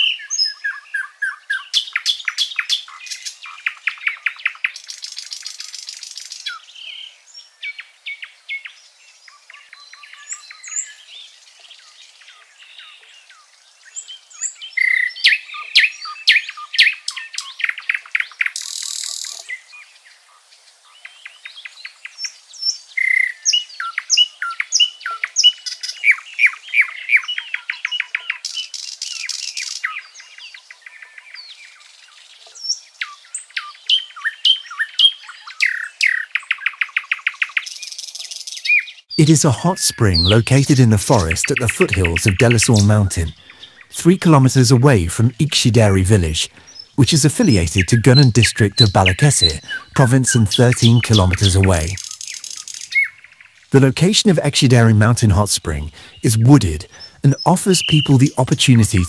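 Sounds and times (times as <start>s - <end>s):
songbirds singing and chirping: 0.0s - 59.0s.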